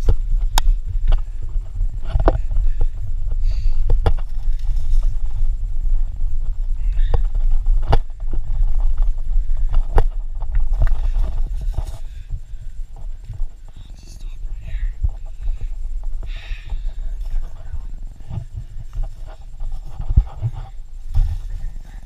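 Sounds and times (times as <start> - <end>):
bike knocking and rattling: 0.0 - 13.9, 14.8 - 22.0
wind on microphone: 0.0 - 22.0.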